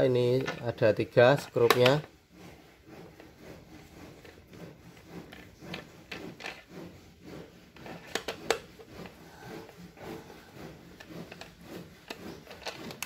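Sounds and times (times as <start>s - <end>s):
screwdriver scraping and rubbing: 0.0s - 13.0s.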